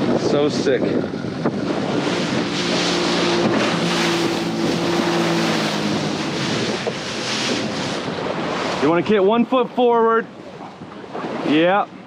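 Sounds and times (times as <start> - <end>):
outboard motor humming: 0.0 - 12.0
sea wash: 0.0 - 12.0
wind buffeting microphone: 0.0 - 12.0.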